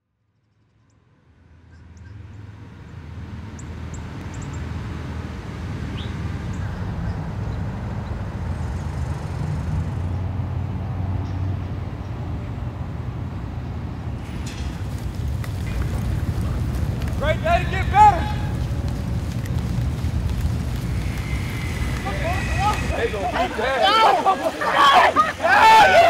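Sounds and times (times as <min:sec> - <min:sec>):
low engine rumble: 0:02.4 - 0:26.0.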